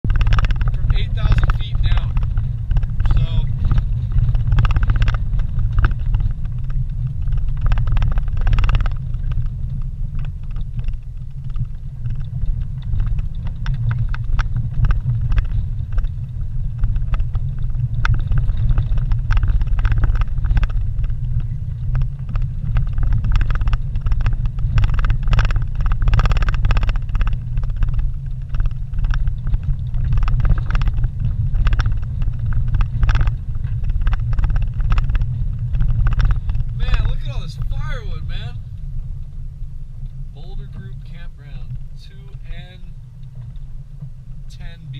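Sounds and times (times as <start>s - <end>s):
rattles and knocks: 0.0s - 37.3s
engine and tyres rumbling: 0.0s - 44.9s.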